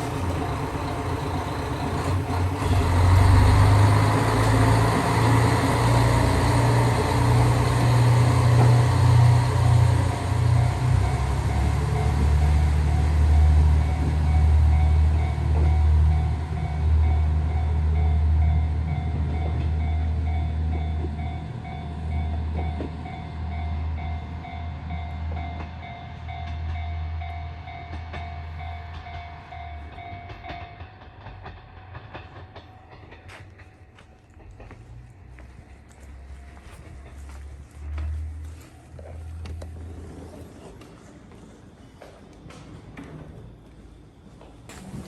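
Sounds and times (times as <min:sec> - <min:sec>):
train rumbling: 0:00.0 - 0:45.0.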